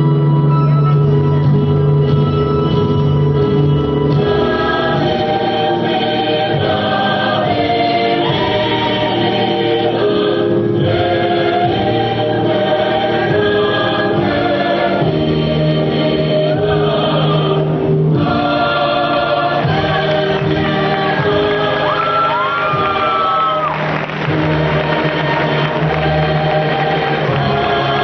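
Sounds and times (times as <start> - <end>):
musical accompaniment: 0.0 - 28.0
chorus singing long notes: 4.2 - 28.0.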